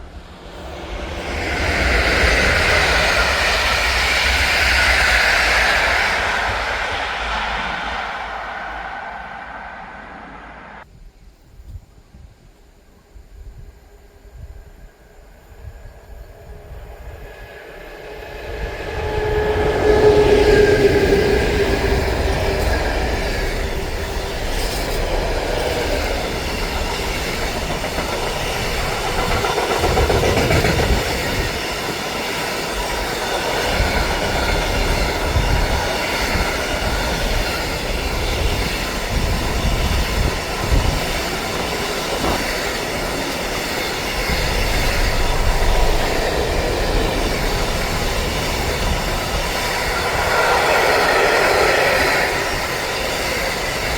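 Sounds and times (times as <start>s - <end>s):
train passing: 0.0s - 11.8s, 12.7s - 53.9s.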